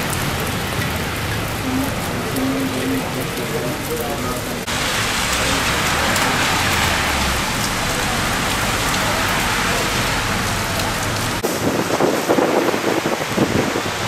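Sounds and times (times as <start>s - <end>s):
heavy rain on street: 0.0s - 14.0s
vehicles driving on wet road: 0.0s - 14.0s.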